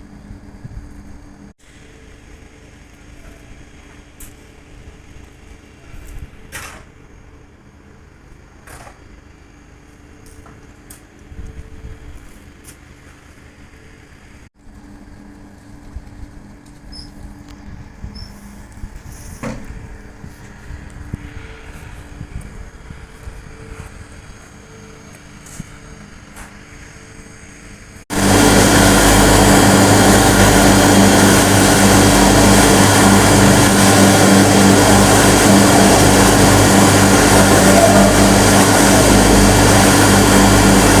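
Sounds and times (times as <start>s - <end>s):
loud machine droning: 0.0s - 41.0s.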